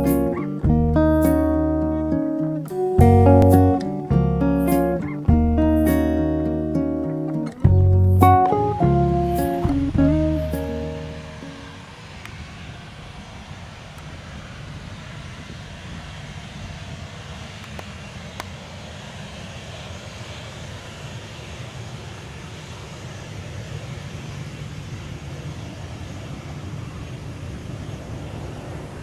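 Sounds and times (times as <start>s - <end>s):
jet engines idling: 0.0s - 29.0s.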